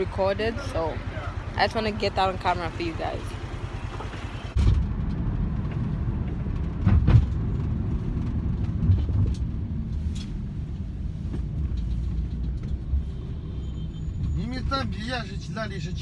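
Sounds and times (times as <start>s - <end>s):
car driving rumble inside cabin: 0.0s - 16.0s.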